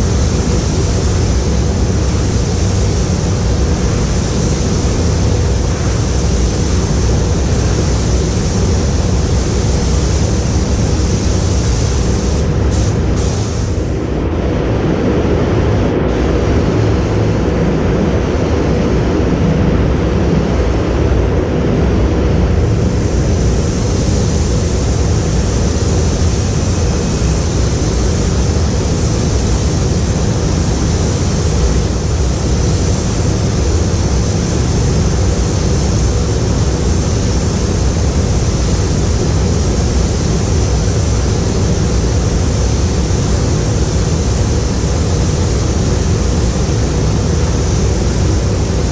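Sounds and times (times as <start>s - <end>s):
compressed air hissing: 0.0s - 48.9s
ventilation roar: 0.0s - 48.9s.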